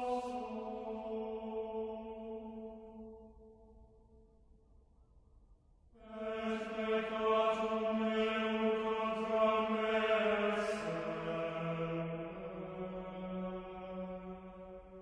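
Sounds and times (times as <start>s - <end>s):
chant-like droning music: 0.0s - 4.4s, 6.0s - 15.0s.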